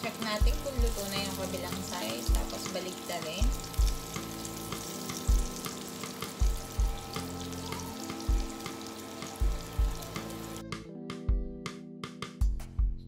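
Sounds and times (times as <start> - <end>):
shrimp sizzling in hot oil: 0.0 - 10.6
background music with low beat: 0.4 - 13.0.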